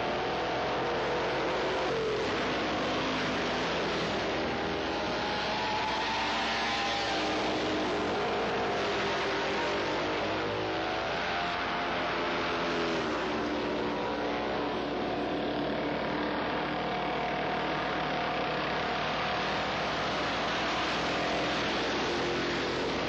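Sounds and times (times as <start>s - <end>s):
racing motorcycle engines revving: 0.0s - 23.0s.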